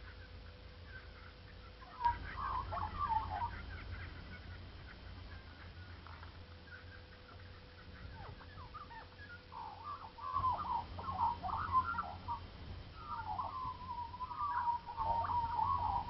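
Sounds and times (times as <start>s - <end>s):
birds chirping: 0.0s - 16.0s
drawn-out bird call: 0.0s - 16.0s.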